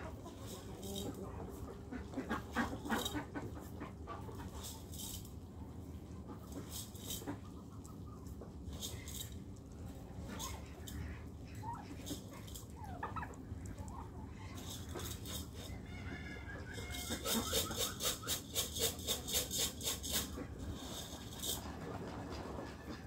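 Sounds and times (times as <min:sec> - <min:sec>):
poultry calling and clucking: 0:00.0 - 0:23.0.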